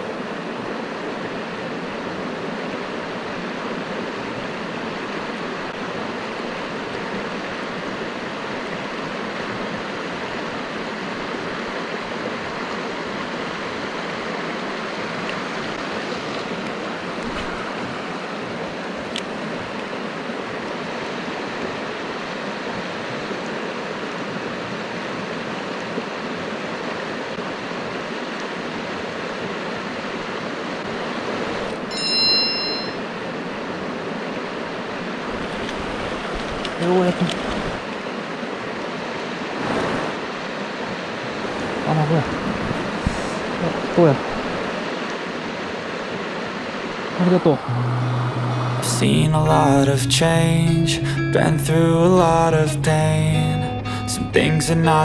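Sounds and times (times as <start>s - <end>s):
water rushing over rocks: 0.0s - 51.2s.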